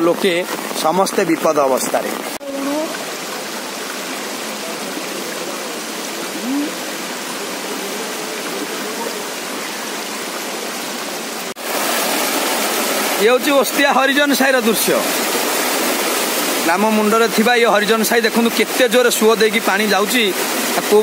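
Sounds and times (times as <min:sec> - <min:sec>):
floodwater rushing down a street: 0:00.0 - 0:21.0.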